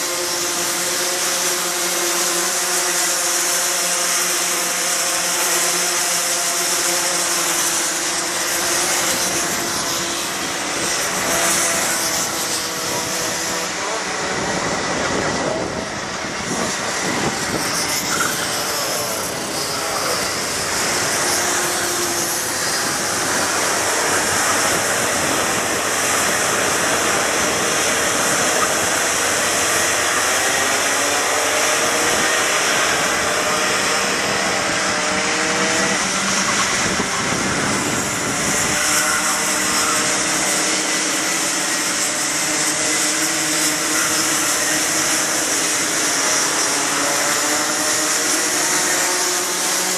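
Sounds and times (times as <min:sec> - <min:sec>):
racing kart engines buzzing: 0:00.0 - 0:49.9.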